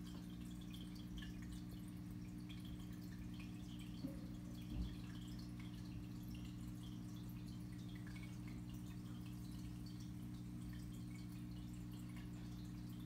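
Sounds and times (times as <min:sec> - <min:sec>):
aquarium equipment hum: 0:00.0 - 0:13.0
water dripping and bubbling: 0:00.0 - 0:13.0.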